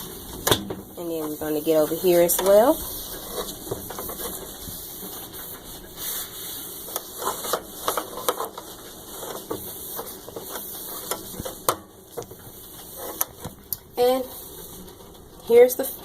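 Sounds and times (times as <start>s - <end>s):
cloth scrubbing inside microwave: 0.0s - 16.0s.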